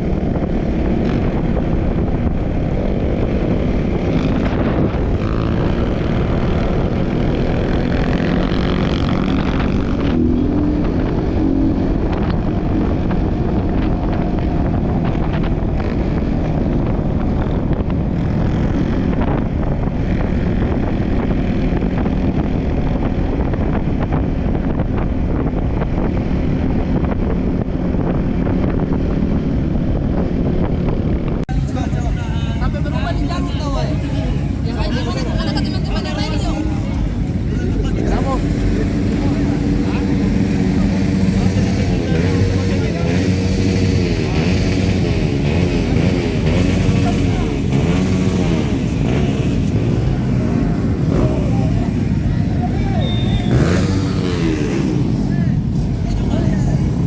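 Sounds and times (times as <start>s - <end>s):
motorbike engine revving: 0.0s - 29.6s, 31.5s - 57.0s
wind buffeting microphone: 0.0s - 57.0s.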